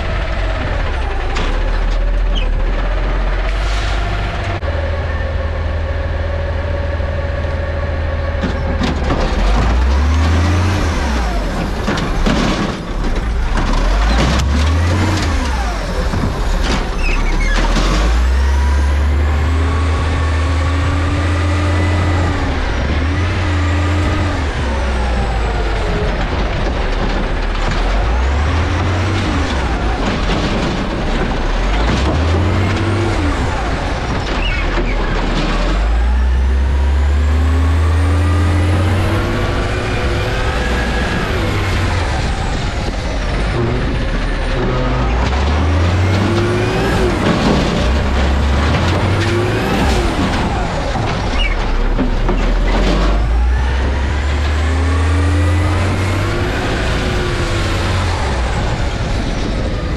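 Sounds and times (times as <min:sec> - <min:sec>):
garbage truck engine revving: 0:00.0 - 0:59.9.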